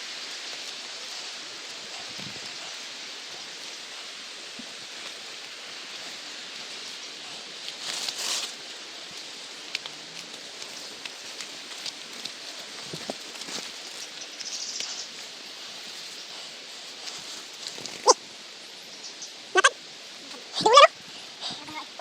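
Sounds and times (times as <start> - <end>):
foliage rustling: 0.0 - 18.5
steady outdoor hiss: 0.0 - 22.0.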